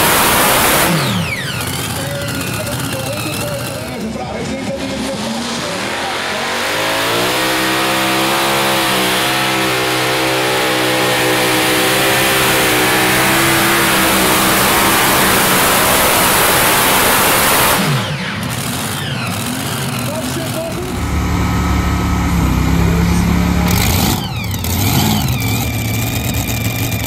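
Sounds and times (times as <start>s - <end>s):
tractor engines at full throttle: 0.0s - 27.0s.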